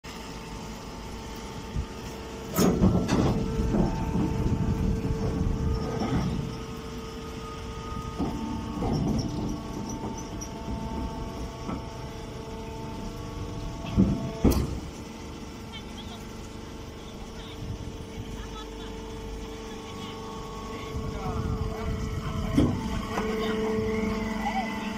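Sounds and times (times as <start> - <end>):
baler machine hum: 0.0 - 24.9.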